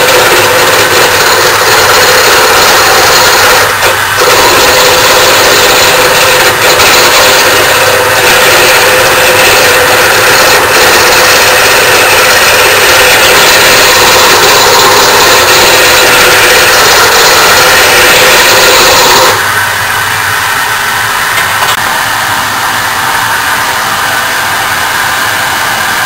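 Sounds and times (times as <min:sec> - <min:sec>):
wood lathe cutting wood: 0:00.0 - 0:26.0.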